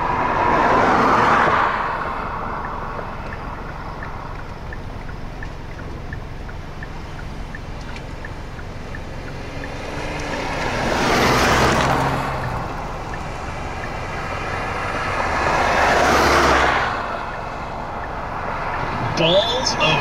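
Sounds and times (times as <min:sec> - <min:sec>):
vehicles passing by: 0:00.0 - 0:20.0.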